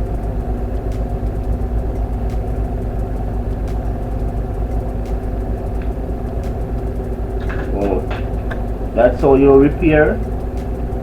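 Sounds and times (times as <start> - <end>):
faint clicks: 0.0 - 11.0
low machine hum: 0.0 - 11.0.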